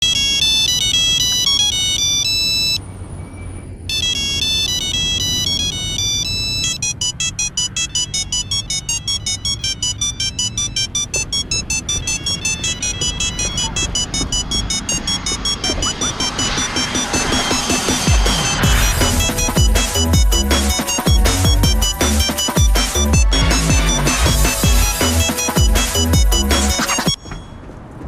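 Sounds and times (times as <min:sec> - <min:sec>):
ringtone melody in electronic beeps: 0:00.0 - 0:02.9, 0:03.8 - 0:27.6
fast pulsing beeps: 0:00.0 - 0:27.3.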